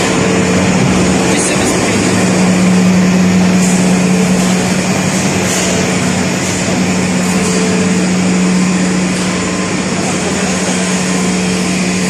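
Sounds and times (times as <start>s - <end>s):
constant low hum: 0.0s - 12.0s
mill machinery running: 0.0s - 12.0s.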